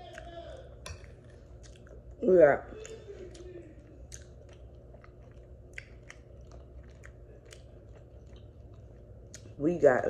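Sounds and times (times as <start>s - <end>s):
close-up chewing: 0.0s - 9.6s.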